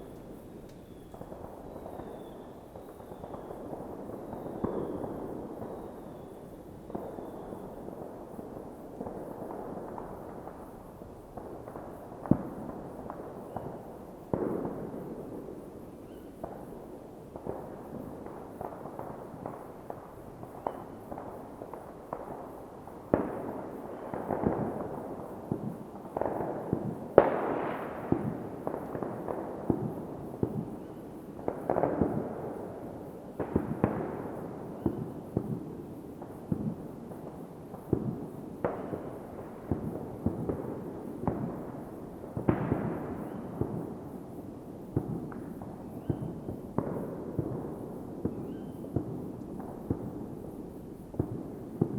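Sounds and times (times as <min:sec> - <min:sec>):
distant fireworks rumble: 0:00.0 - 0:51.9
nearby fireworks cracks: 0:00.0 - 0:51.9.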